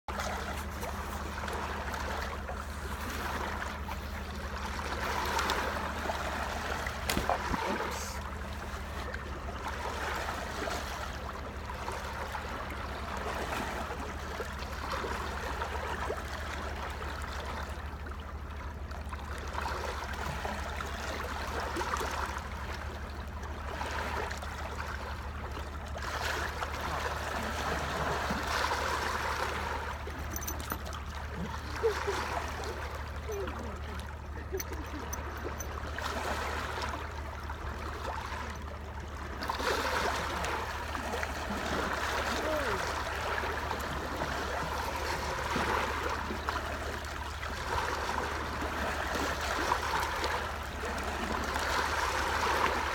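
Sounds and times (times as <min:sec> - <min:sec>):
waves lapping at shore: 0:00.1 - 0:52.9.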